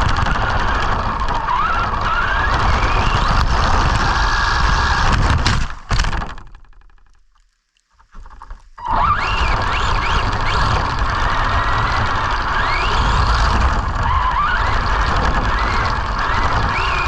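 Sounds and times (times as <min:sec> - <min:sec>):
electric motor whining: 0:00.0 - 0:05.8, 0:08.8 - 0:17.0
truck rumbling through snow: 0:00.0 - 0:05.8, 0:08.8 - 0:17.0.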